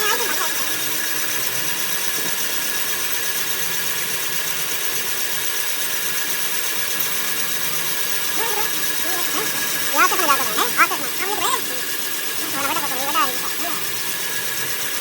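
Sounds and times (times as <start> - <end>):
machine whining: 0.0 - 15.0.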